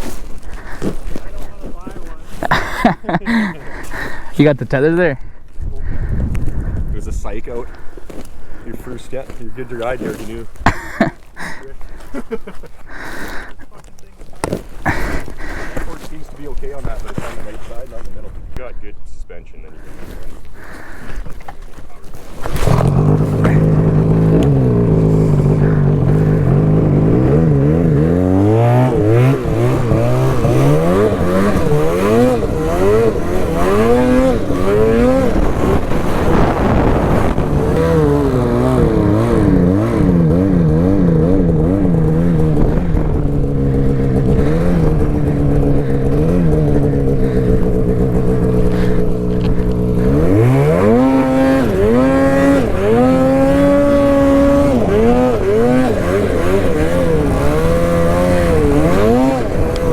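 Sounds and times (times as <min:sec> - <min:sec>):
snowmobile engine revving: 0:00.0 - 0:05.2, 0:06.7 - 0:18.5, 0:19.4 - 0:59.9.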